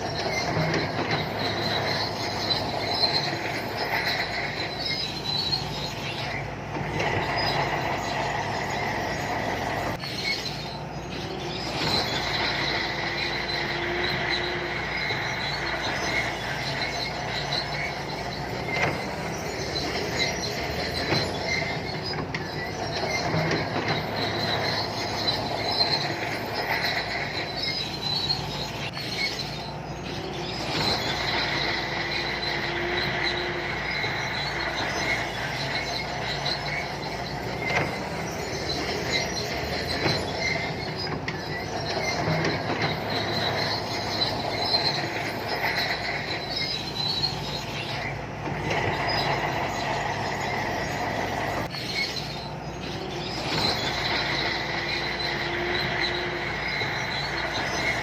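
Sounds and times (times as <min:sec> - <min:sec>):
bulldozer diesel engine running: 0:00.0 - 0:58.0
metallic squeal of steel tracks: 0:00.0 - 0:58.0.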